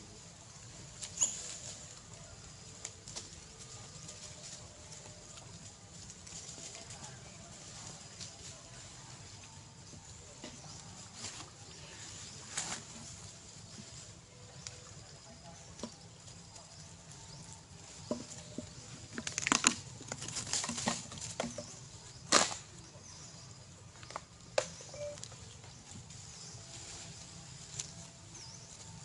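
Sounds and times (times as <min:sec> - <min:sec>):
rustling in grass: 0:00.0 - 0:29.0.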